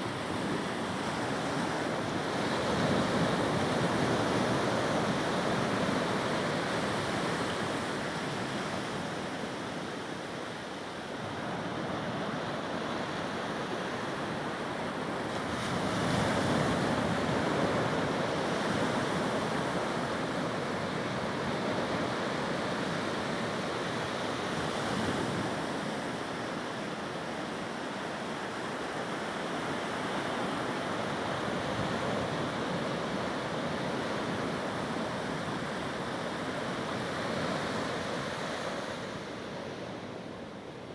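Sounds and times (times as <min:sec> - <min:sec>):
ocean surf washing ashore: 0:00.0 - 0:40.9
wind: 0:00.0 - 0:40.9.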